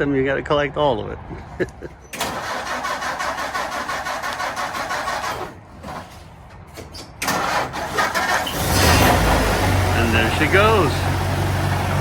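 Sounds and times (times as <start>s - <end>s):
engine running: 1.5s - 12.0s
engine starter cranking: 2.1s - 12.0s.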